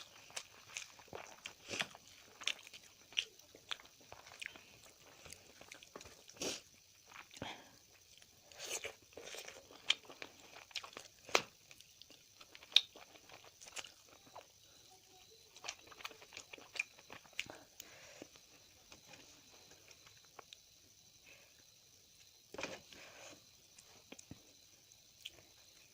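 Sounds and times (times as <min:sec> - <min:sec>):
chewing and crunching: 0:00.0 - 0:21.0, 0:22.6 - 0:25.9.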